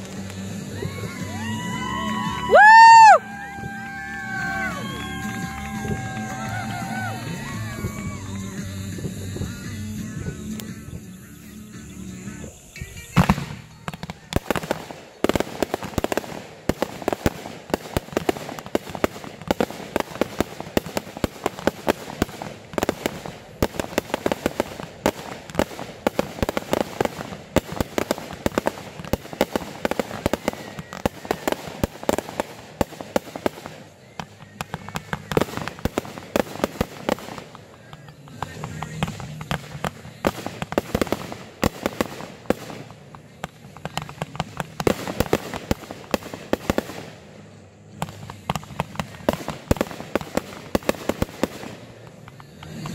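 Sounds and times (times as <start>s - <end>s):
fireworks cracking: 0.0s - 52.9s.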